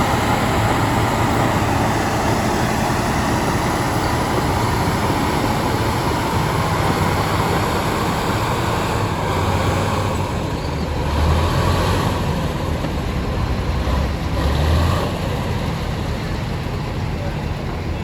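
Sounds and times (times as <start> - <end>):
bulldozer diesel engine rumbling: 0.0 - 18.0.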